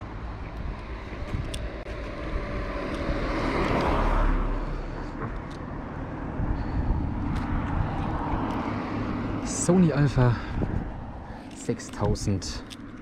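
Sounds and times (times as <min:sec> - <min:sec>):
vehicle passing by: 0:00.2 - 0:13.0.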